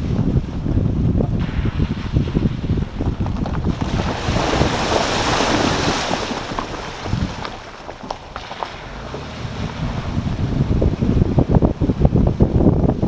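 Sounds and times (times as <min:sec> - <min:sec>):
wind on microphone: 0:00.0 - 0:13.0
water splashing around tyres: 0:01.4 - 0:12.6.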